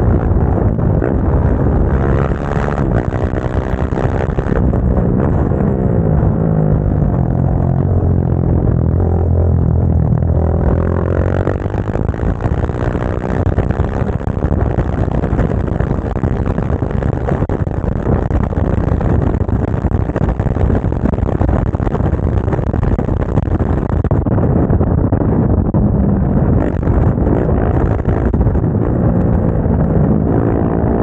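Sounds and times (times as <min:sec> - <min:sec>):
motorcycle engine: 0:00.0 - 0:31.0
steady rushing noise: 0:00.0 - 0:31.0.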